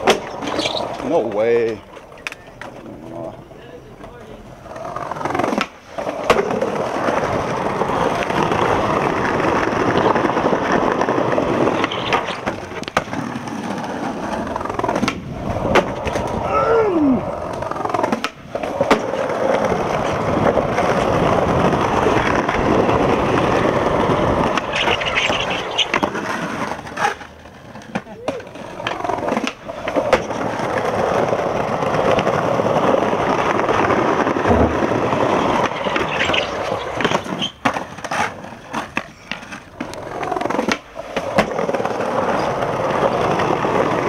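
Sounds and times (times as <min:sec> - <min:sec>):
skateboard knocks and clacks: 0:00.0 - 0:02.9, 0:04.0 - 0:16.4, 0:17.4 - 0:44.0
skateboard wheels rolling on bricks: 0:00.0 - 0:44.0.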